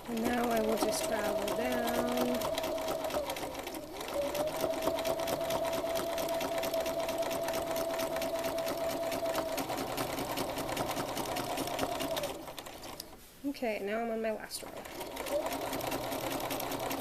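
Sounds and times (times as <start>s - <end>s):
sewing machine running: 0.0s - 13.0s, 14.6s - 17.0s.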